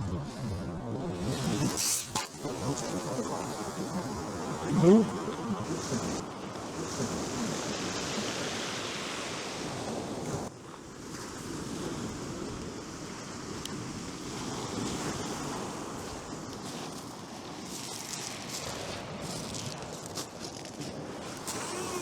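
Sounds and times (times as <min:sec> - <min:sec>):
surf breaking on a beach: 0:00.0 - 0:22.0.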